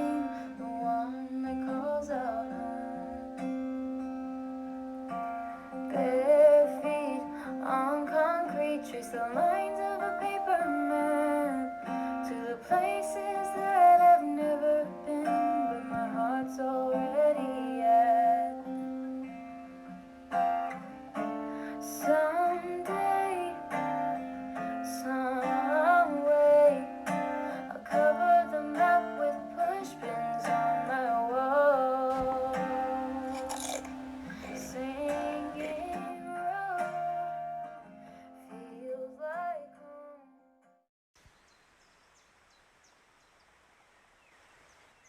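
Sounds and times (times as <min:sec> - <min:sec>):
acoustic guitar song: 0:00.0 - 0:40.8.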